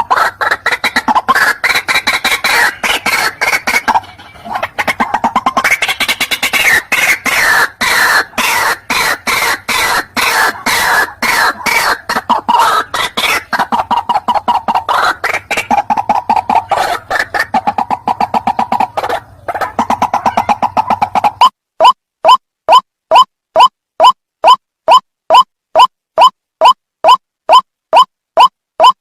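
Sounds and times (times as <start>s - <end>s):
bird call harsh clucking: 0.0s - 29.0s.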